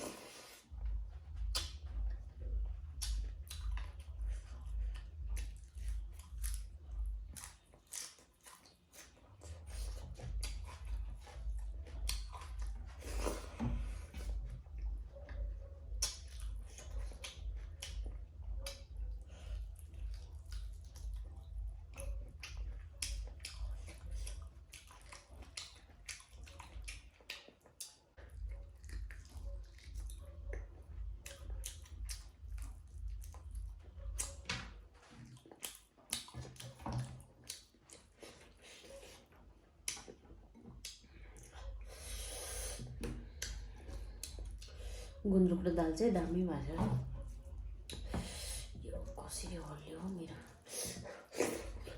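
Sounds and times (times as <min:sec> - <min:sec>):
chewing and mouth smacks: 0:00.0 - 0:45.3, 0:45.9 - 0:51.9
low pulsing hum: 0:00.6 - 0:07.8, 0:09.2 - 0:27.2, 0:28.2 - 0:35.0, 0:40.5 - 0:51.9.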